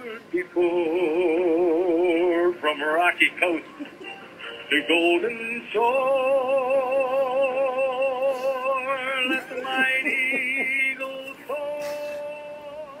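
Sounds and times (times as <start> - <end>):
person singing with vibrato: 0.0 - 2.9, 4.3 - 13.0.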